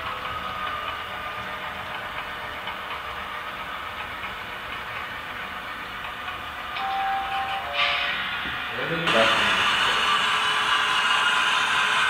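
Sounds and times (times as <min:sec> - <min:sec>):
model freight cars rolling on track: 0:00.0 - 0:12.0.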